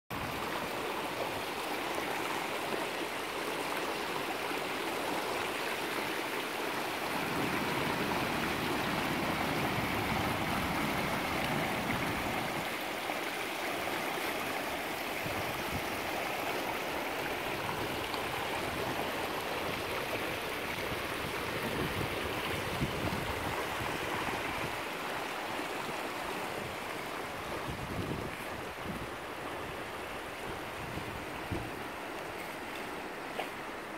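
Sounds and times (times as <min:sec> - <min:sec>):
river babbling: 0:00.1 - 0:33.9.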